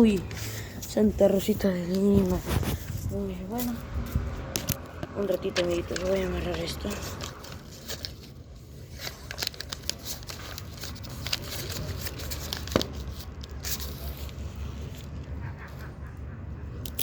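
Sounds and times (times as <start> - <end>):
paper rustling and crinkling: 0.0 - 15.2.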